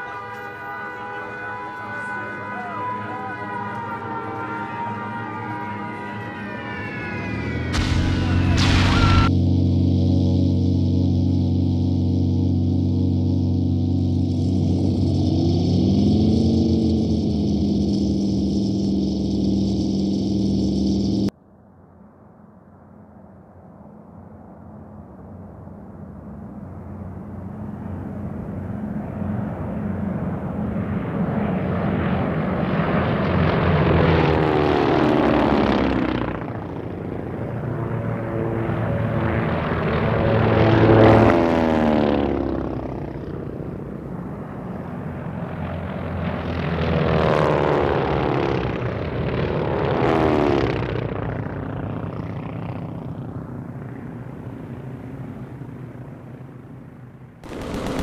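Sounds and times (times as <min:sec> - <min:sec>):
plane fly-by whine: 0:00.0 - 0:58.0
propeller plane engine drone: 0:00.0 - 0:58.0.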